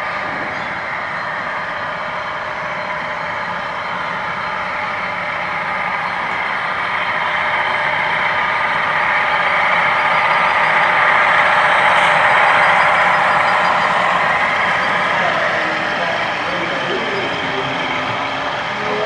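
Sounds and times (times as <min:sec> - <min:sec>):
model train diesel engine sound: 0:00.0 - 0:19.0.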